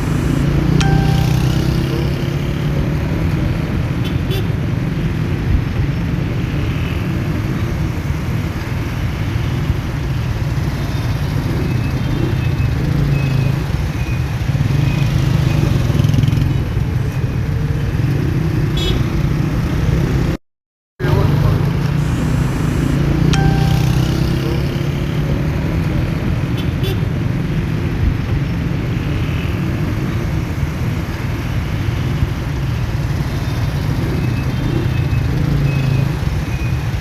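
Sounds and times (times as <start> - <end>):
road traffic noise: 0.0 - 20.4, 21.0 - 37.0
vehicle engine rumbling: 0.0 - 20.4, 21.0 - 37.0.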